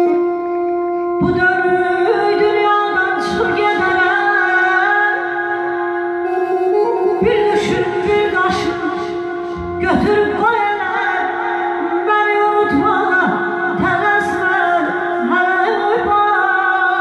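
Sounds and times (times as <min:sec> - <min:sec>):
instrumental drone: 0:00.0 - 0:17.0
woman singing ornamented melody: 0:01.2 - 0:17.0.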